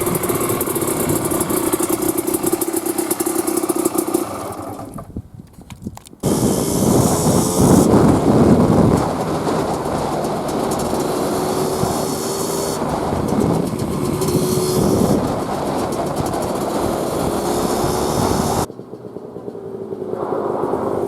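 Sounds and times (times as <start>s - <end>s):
two-stroke motorcycle engine: 0.0s - 5.1s, 6.2s - 21.0s
road and wind noise: 0.0s - 21.0s.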